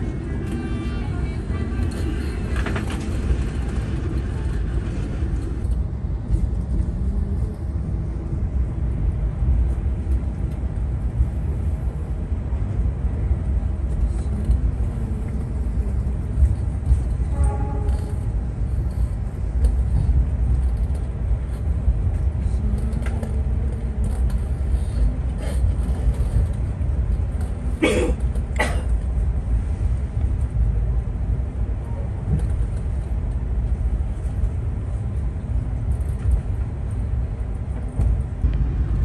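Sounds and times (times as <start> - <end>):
train rumbling from inside carriage: 0.0 - 39.0.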